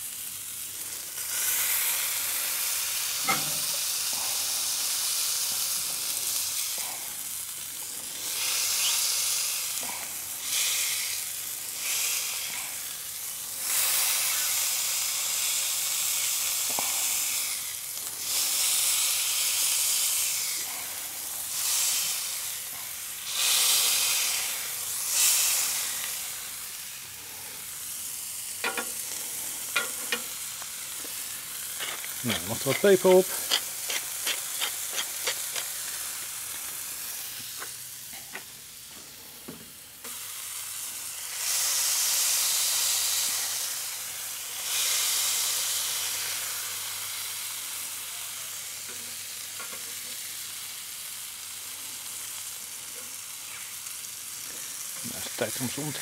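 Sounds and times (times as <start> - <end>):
burgers sizzling on griddle: 0.0 - 56.0.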